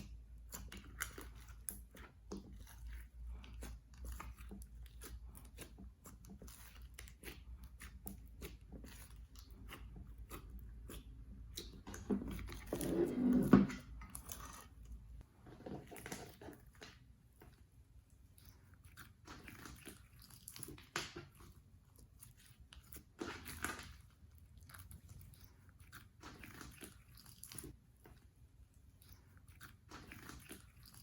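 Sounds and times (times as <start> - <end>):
slime squelching: 0.0 - 31.0.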